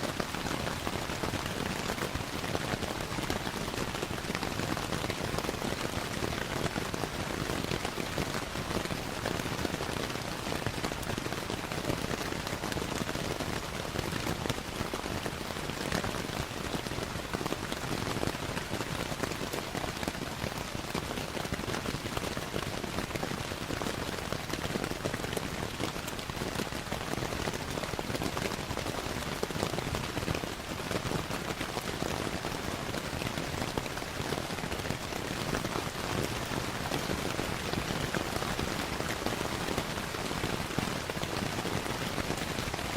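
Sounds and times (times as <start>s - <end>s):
steady rainfall: 0.0s - 42.9s.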